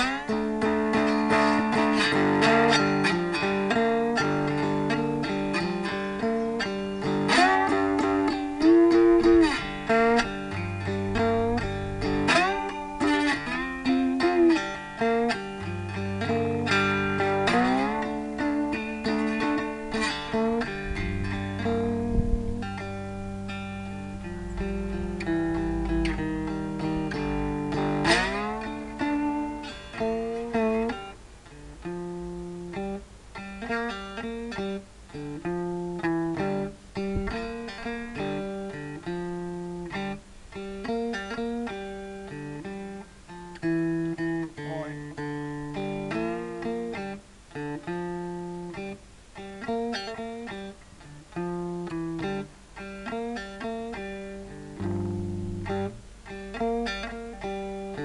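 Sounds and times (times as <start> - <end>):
electric guitar picked notes: 0.0 - 58.0.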